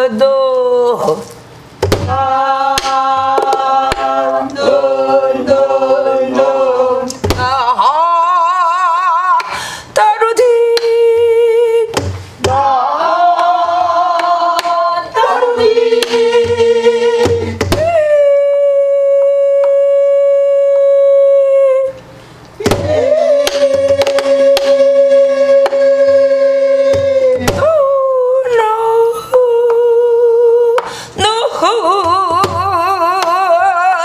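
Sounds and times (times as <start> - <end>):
woman singing long held notes: 2.1 - 34.0.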